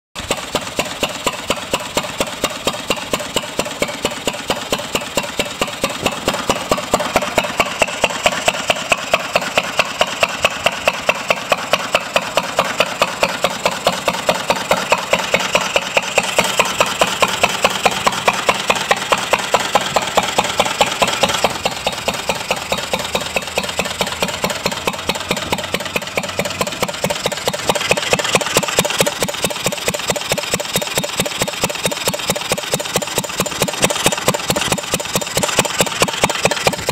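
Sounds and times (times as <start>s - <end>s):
stationary engine running: 0.2s - 36.9s.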